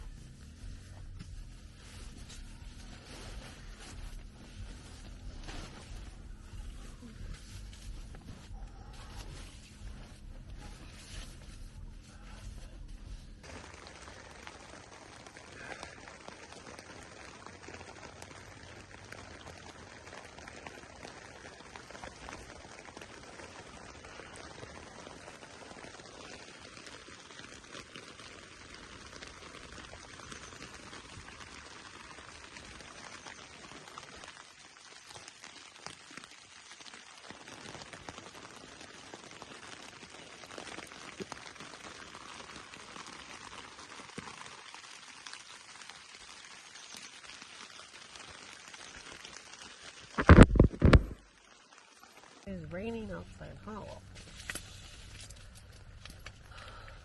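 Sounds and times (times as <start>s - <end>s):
rain pattering: 0.0s - 57.0s.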